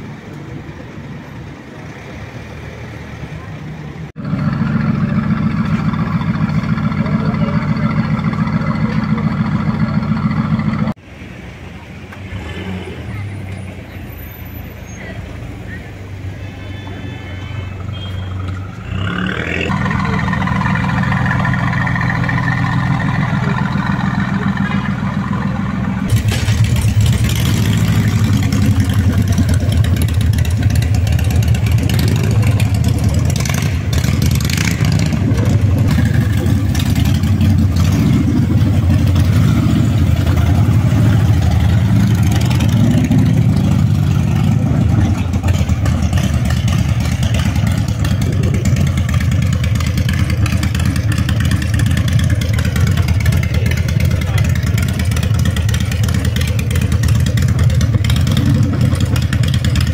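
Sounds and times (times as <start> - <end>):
engine idling: 4.1 - 11.0, 17.5 - 59.9
motorcycle engine revving: 4.2 - 11.0, 18.0 - 59.9.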